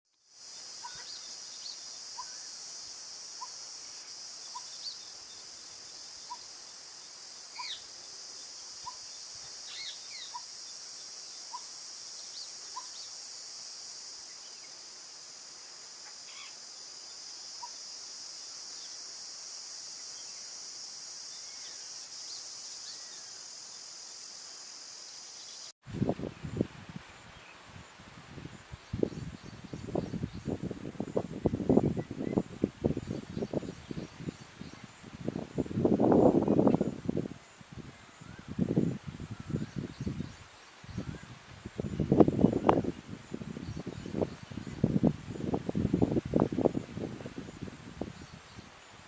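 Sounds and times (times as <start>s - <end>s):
insect drone: 0.1s - 49.0s.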